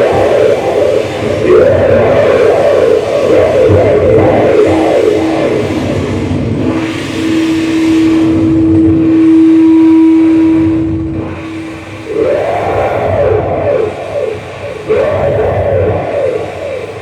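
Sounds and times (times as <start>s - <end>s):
steady held tone: 0.0s - 17.0s.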